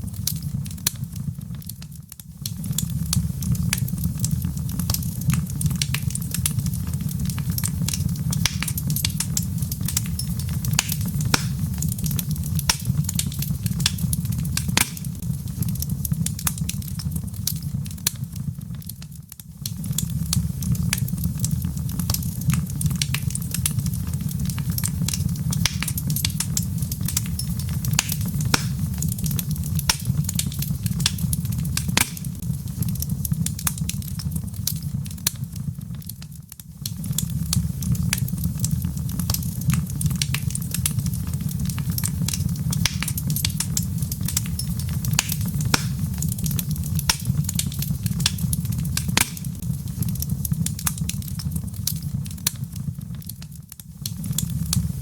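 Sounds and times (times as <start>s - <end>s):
log fire crackling and popping: 0.0s - 55.0s
low rumble of fire: 0.0s - 55.0s.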